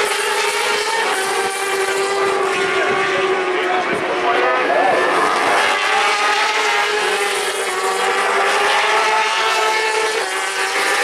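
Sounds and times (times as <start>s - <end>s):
racing motorcycle engines: 0.0s - 11.0s.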